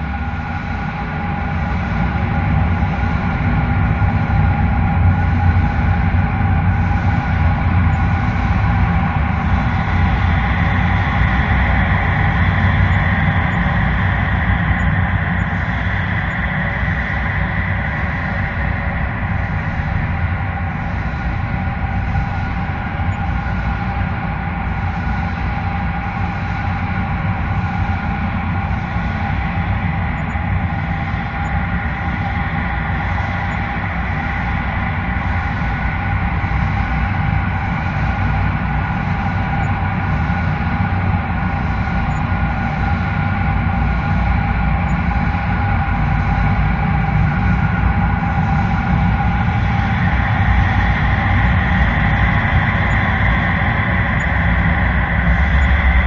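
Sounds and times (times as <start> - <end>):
low rumble: 0.0 - 56.0
sustained droning tones: 0.0 - 56.0.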